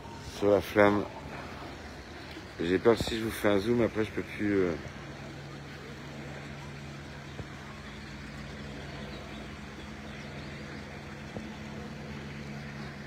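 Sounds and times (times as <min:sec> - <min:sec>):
steady low engine hum: 0:00.0 - 0:13.0.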